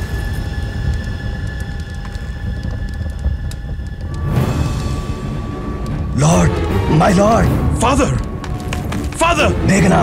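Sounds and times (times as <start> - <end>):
dramatic film score: 0.0 - 10.0.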